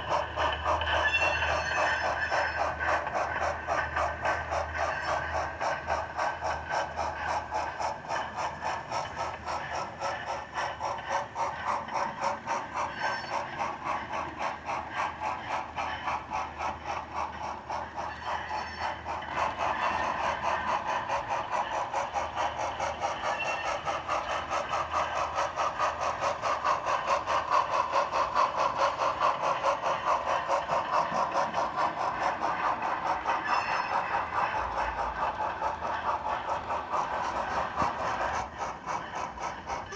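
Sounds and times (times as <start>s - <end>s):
model train clicking on tracks: 0.0s - 39.9s.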